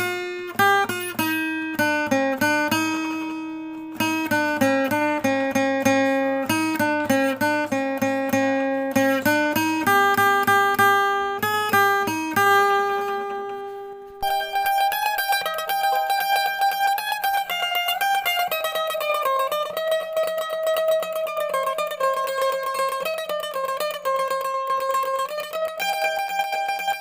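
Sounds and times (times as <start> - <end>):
plucked string instrument music: 0.0 - 27.0.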